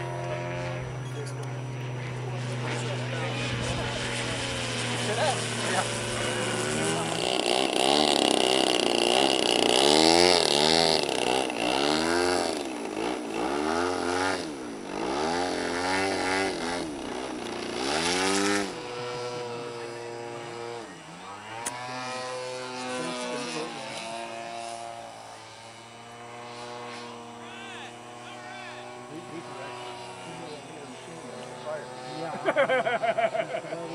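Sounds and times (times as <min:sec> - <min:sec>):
model airplane engines buzzing: 0:00.0 - 0:33.9.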